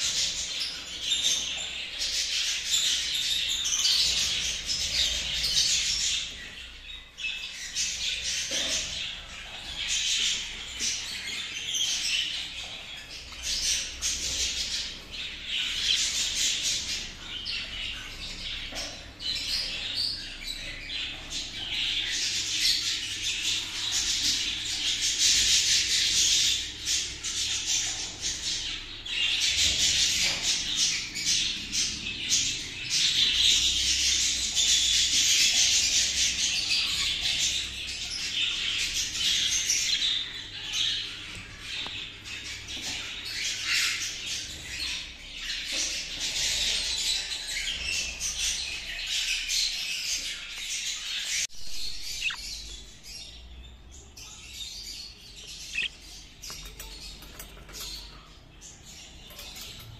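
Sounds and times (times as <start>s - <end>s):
budgerigars chattering and warbling: 0.0s - 59.9s.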